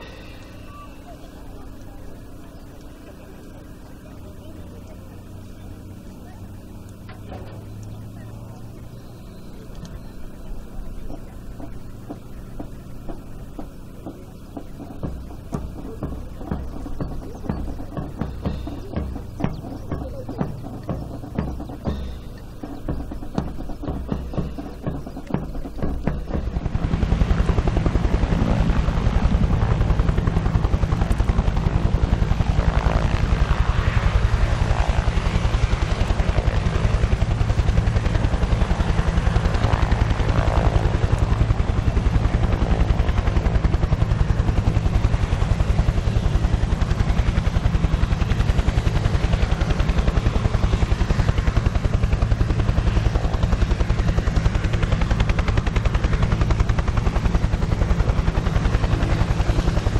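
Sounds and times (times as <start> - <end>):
helicopter engine drone: 0.0 - 59.9
helicopter rotor blades beating: 0.0 - 59.9.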